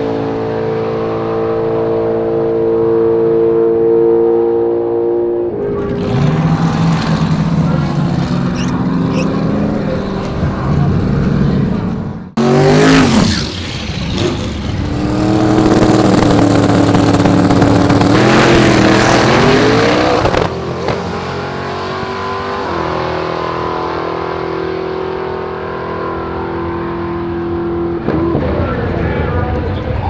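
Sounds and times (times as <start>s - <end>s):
drag race car engines: 0.0s - 30.0s.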